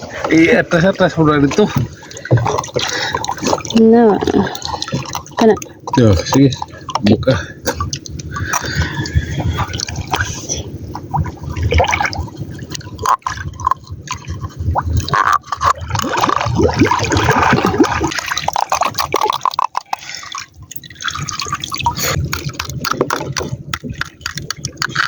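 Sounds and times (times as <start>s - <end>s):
water sloshing and dripping: 0.0s - 25.0s.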